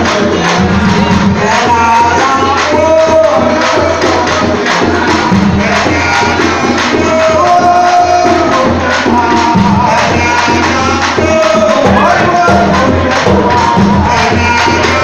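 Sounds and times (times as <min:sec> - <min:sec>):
hand drum beating: 0:00.0 - 0:15.0
person singing: 0:00.0 - 0:15.0.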